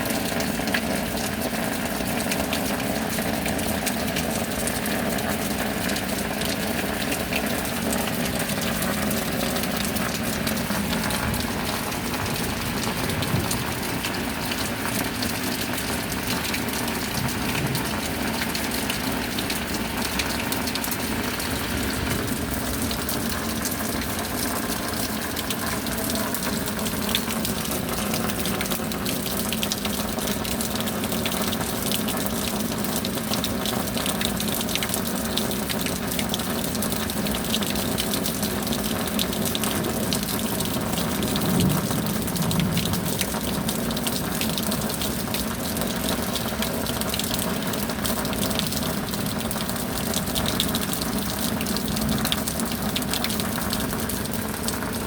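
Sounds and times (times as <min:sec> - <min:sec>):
gushing water: 0:00.0 - 0:55.0
heavy rain: 0:00.0 - 0:55.0.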